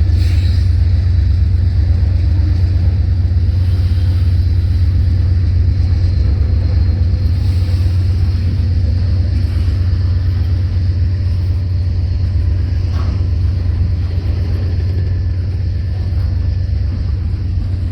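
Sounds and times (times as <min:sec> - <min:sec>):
diesel freight train rumbling: 0:00.0 - 0:17.9.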